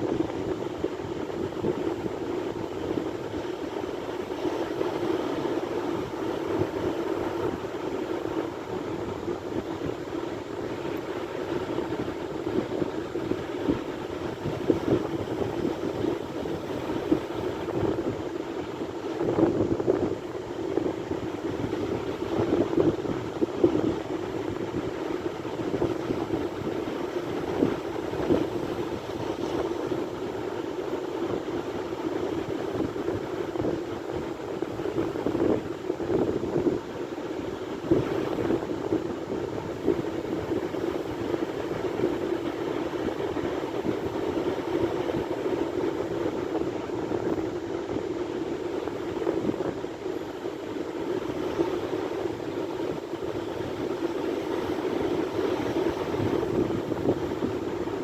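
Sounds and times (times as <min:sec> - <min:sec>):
sea waves washing ashore: 0:00.0 - 0:58.0
wind buffeting microphone: 0:00.0 - 0:58.0.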